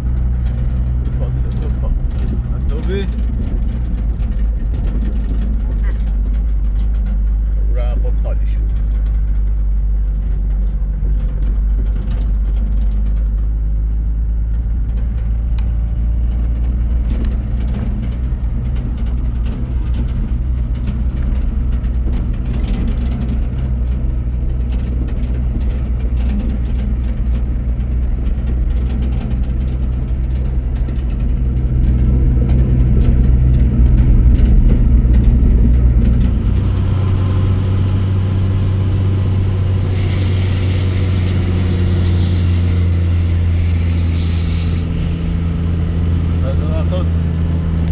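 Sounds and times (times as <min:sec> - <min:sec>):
light rattles: 0:00.0 - 0:47.9
vehicle engine running: 0:00.0 - 0:47.9.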